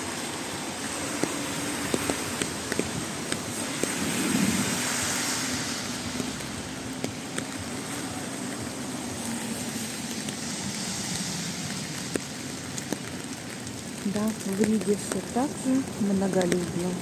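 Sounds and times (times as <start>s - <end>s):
low vehicle hum: 0.0s - 17.0s
rain hissing: 0.0s - 17.0s
road traffic: 0.0s - 17.0s
sharp ticks of raindrops: 0.0s - 17.0s.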